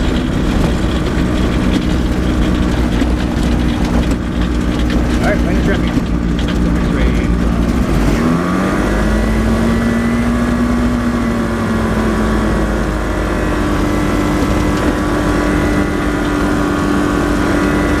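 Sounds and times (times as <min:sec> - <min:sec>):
light aircraft engine and propeller: 0:00.0 - 0:18.0.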